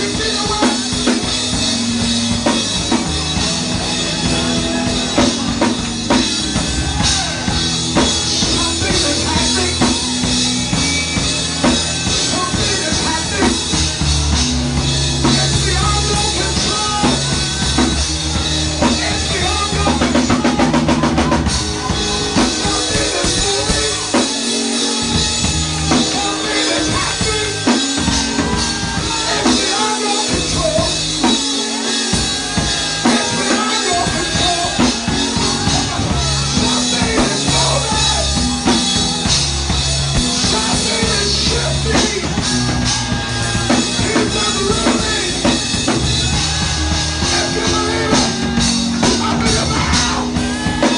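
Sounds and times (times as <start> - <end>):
drum-driven instrumental music: 0.0 - 50.9
drum roll: 0.1 - 50.9.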